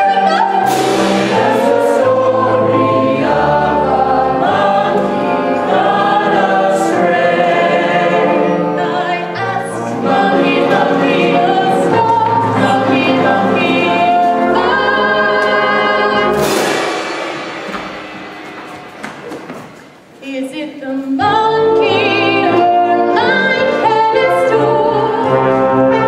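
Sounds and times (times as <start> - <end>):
chorus singing: 0.0 - 19.6, 21.2 - 26.0
pit orchestra playing: 0.0 - 20.2, 21.2 - 26.0.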